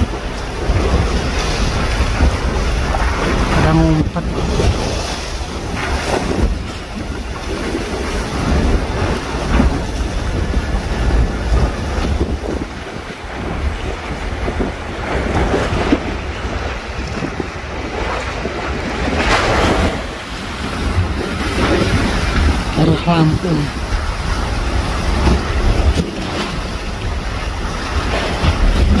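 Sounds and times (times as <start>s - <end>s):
sea waves splashing: 0.0s - 29.0s
wind buffeting microphone: 0.0s - 29.0s.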